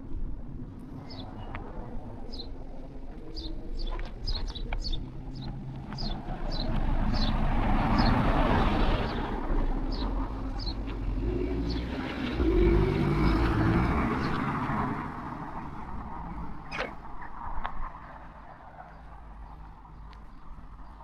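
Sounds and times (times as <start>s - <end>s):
car passing: 3.1s - 21.0s.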